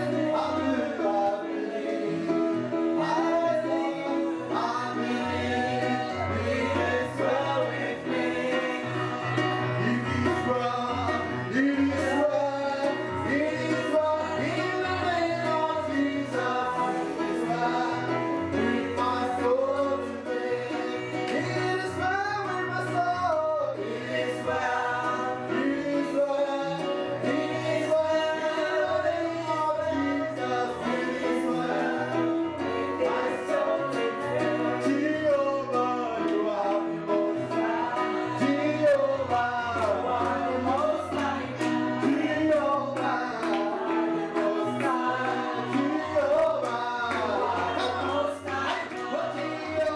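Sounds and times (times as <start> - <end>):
instrumental backing: 0.0 - 49.9
voices singing gospel: 0.0 - 49.9.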